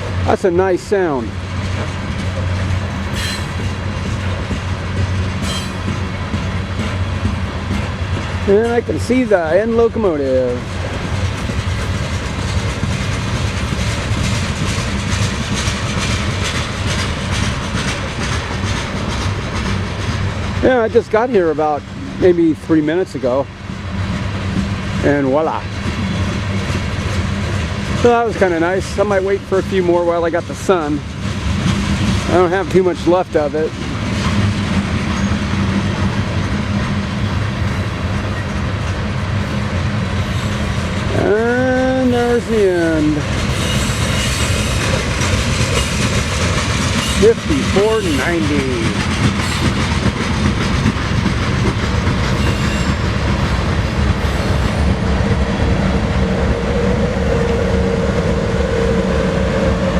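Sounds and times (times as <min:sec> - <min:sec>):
light clicks of train wheels: 0:00.0 - 0:22.2, 0:22.8 - 0:55.8
train wheels humming on rails: 0:00.0 - 0:59.9.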